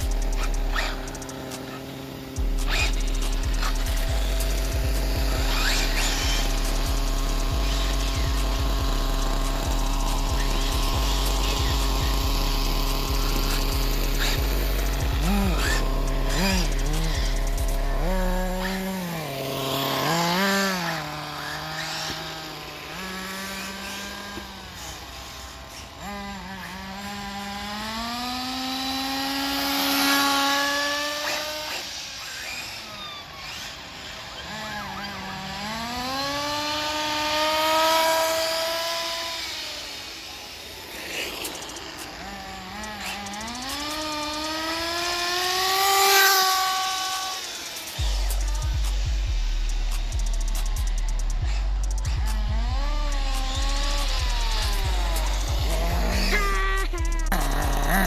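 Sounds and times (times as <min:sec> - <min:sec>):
radio-controlled car motor whine: 0:00.0 - 0:58.0.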